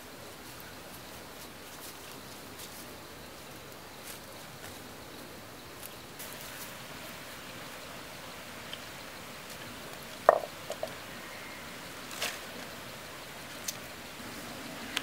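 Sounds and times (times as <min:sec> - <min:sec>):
rustling undergrowth and sticks: 0:00.0 - 0:07.5, 0:08.6 - 0:15.0
steady outdoor hiss: 0:00.0 - 0:15.0.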